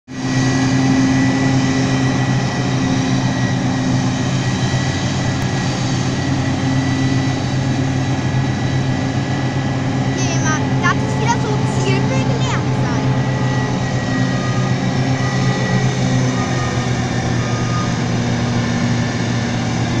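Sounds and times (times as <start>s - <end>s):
harvester engine drone: 0.1s - 20.0s
tractor running: 0.1s - 20.0s
high whine: 0.2s - 20.0s.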